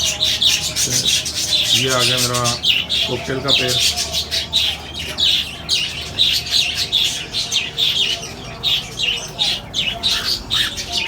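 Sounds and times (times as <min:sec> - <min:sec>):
small parrots chirping: 0:00.0 - 0:11.0.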